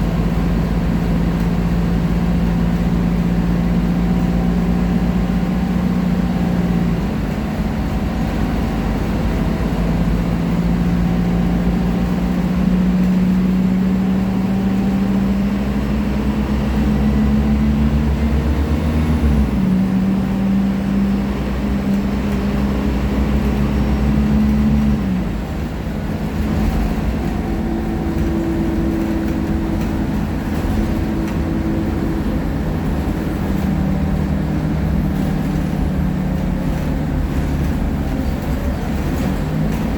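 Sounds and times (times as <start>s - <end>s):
bus diesel engine under load: 0.0s - 39.9s.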